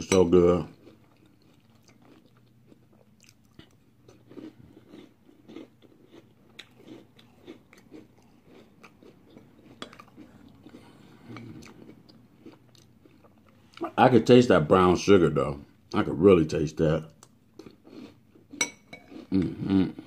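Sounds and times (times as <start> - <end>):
person chewing cereal: 0.2 - 14.0, 17.2 - 20.0.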